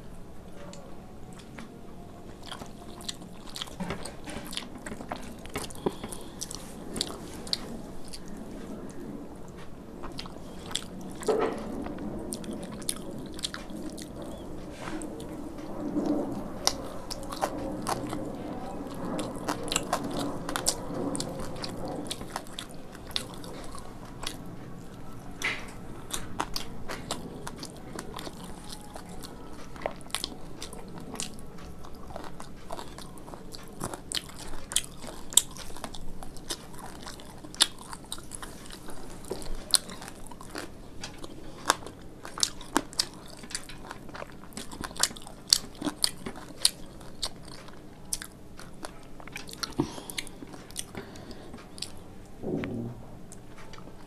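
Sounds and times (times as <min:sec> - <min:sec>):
person chewing: 0:00.6 - 0:52.2.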